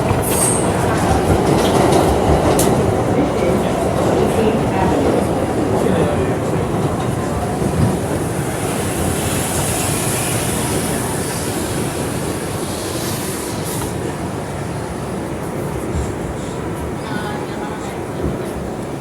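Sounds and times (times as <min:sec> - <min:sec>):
subway train wheels rumbling: 0:00.0 - 0:19.0.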